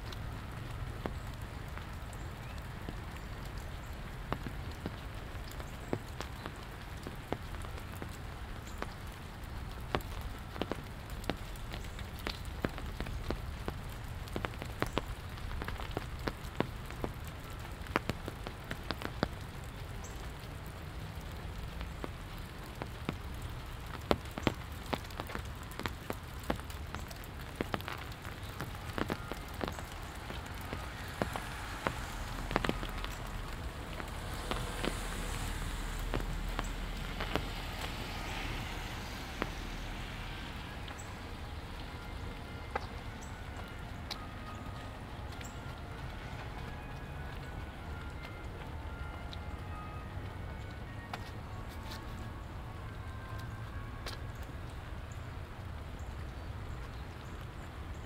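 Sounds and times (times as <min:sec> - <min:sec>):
sharp drips landing close by: 0:00.0 - 0:58.0
steady rain falling: 0:00.0 - 0:58.0.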